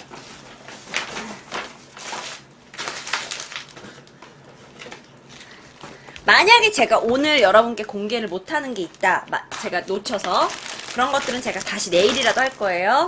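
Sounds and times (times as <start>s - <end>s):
gift packaging rustling: 0.0s - 7.6s, 8.7s - 13.0s.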